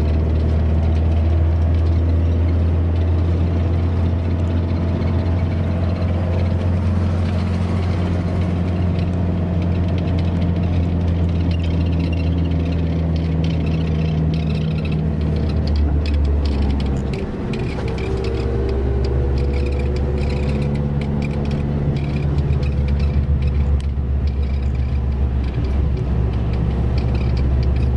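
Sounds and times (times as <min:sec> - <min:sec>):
heavy vehicle engine droning: 0:00.0 - 0:27.9
rattling clicks: 0:00.1 - 0:27.9.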